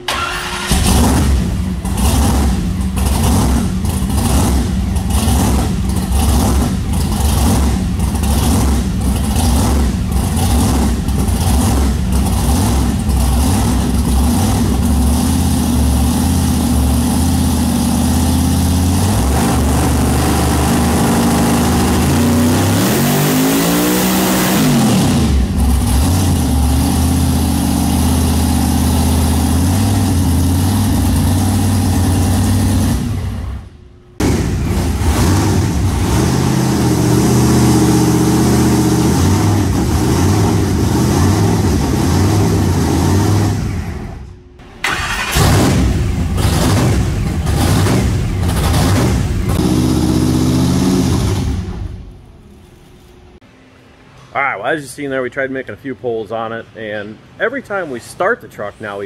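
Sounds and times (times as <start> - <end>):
car engine idling and revving: 0.0 - 54.2.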